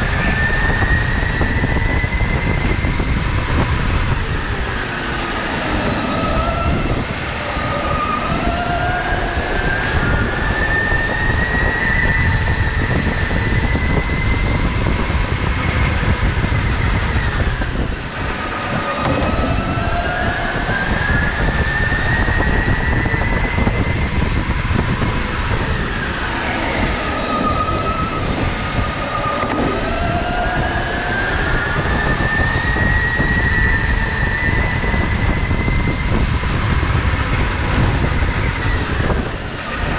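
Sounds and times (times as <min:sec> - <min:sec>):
go-kart engine rumble and whine: 0:00.0 - 0:39.9.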